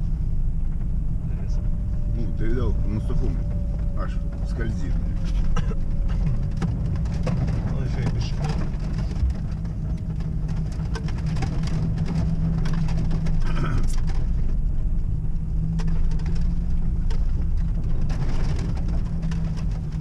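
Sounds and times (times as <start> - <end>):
engine and road drone: 0.0 - 20.0
knocks and rattles over bumps: 0.0 - 20.0.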